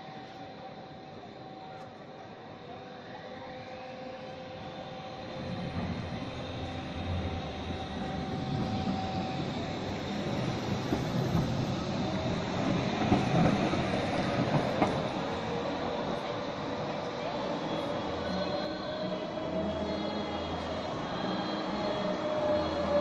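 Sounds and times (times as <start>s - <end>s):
steady tram whine: 0.0s - 23.0s
tram rumbling on rails: 3.5s - 23.0s.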